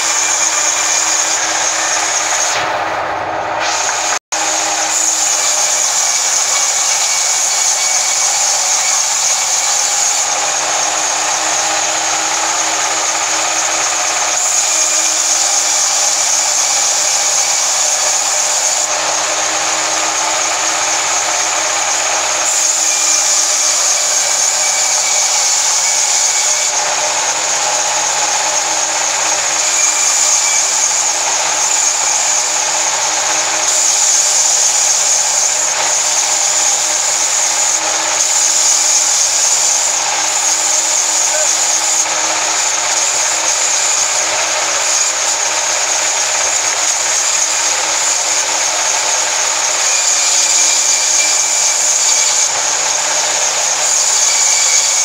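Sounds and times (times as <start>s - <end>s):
band saw blade hissing through wood: 0.0s - 2.8s, 3.6s - 55.0s
saw machine hum: 0.0s - 55.0s.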